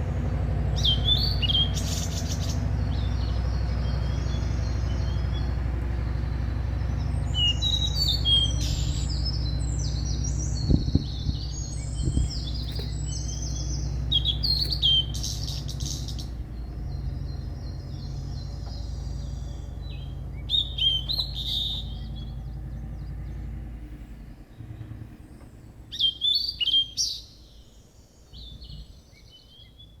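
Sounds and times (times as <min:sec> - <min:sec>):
low rumble: 0:00.0 - 0:26.0
small birds chirping and trilling: 0:00.0 - 0:30.0.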